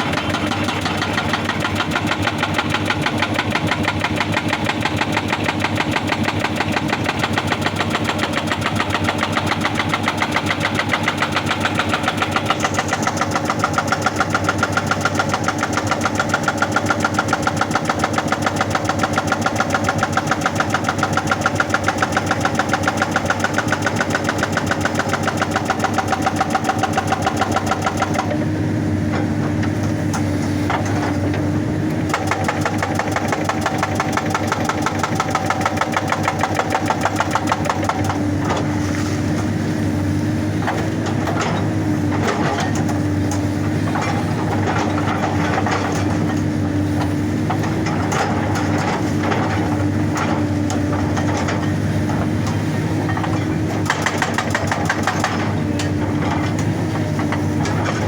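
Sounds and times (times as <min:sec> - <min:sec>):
hydraulic rock breaker hammering: 0:00.0 - 0:39.6, 0:40.3 - 0:58.0
diesel engine running: 0:00.0 - 0:58.0.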